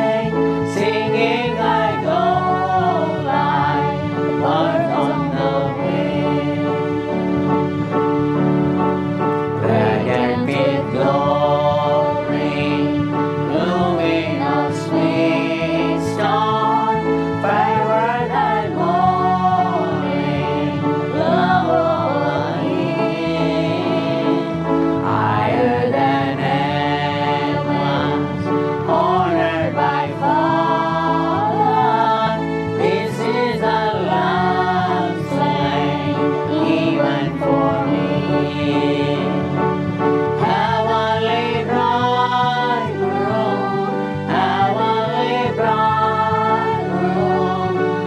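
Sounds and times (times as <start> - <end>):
person singing worship song: 0.0 - 7.1, 9.6 - 39.6, 40.4 - 48.0
instrumental accompaniment: 0.0 - 48.0.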